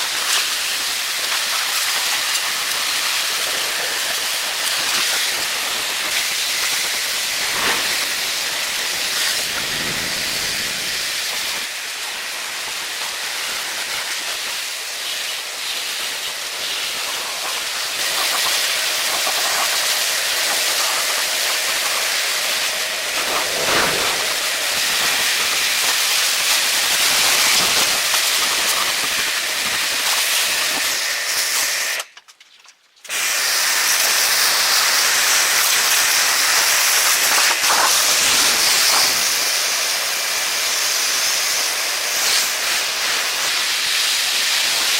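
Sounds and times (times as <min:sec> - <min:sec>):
high-pressure jet hissing: 0:00.0 - 0:32.0, 0:33.1 - 0:44.9.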